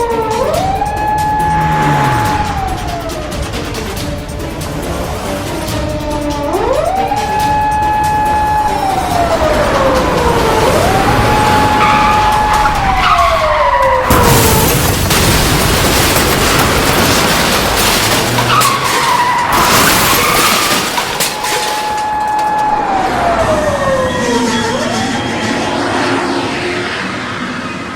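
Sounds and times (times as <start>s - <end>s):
police siren wailing: 0.0s - 15.1s, 16.1s - 27.9s
speeding vehicle rush: 0.0s - 27.9s.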